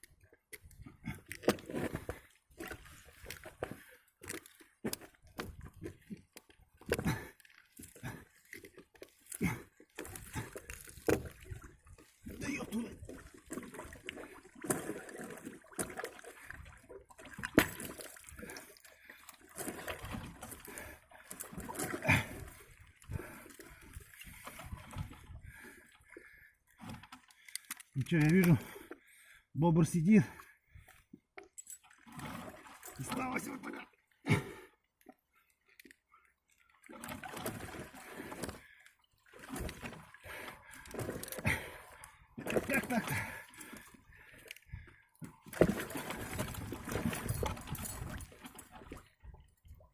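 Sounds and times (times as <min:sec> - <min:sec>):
water sloshing and splashing: 0:00.0 - 0:29.4, 0:30.2 - 0:49.9.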